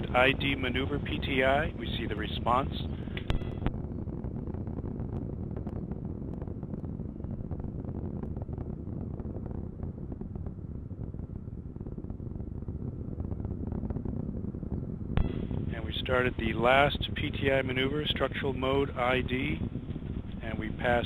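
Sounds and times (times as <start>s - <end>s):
rocket motor rumble with crackling: 0.0s - 21.0s.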